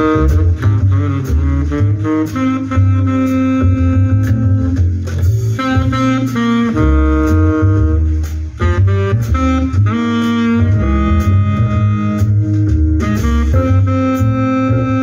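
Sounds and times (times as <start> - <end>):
instrumental music over loudspeakers: 0.0 - 15.0.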